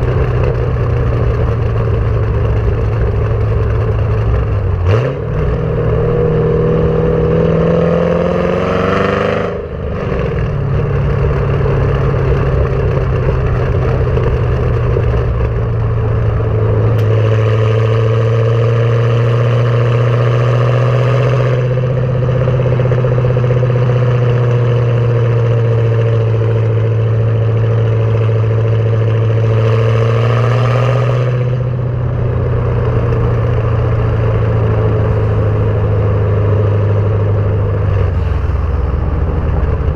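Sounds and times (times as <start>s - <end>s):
loud car exhaust: 0.0s - 39.9s.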